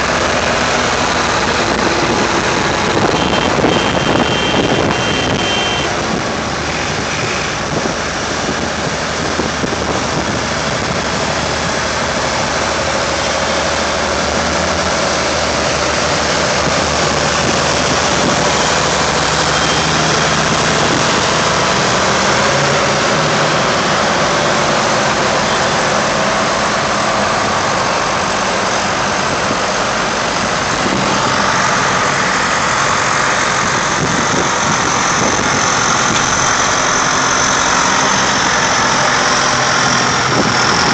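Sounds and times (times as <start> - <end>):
tractor engines idling: 0.0 - 40.9.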